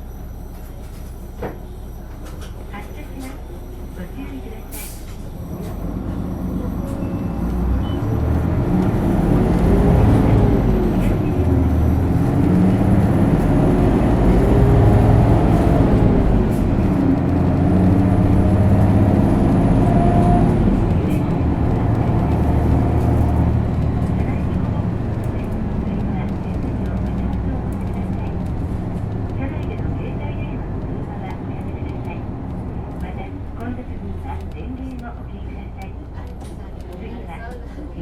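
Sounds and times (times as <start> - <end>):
bus diesel engine accelerating: 0.0 - 38.0.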